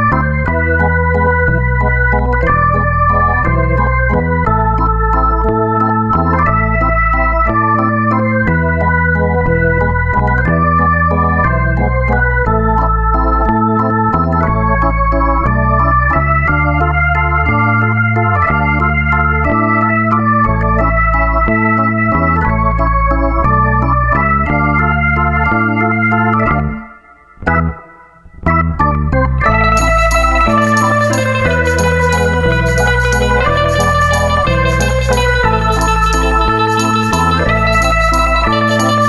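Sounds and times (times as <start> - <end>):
deep bass line: 0.0 - 39.0
sustained organ chords: 0.0 - 39.0.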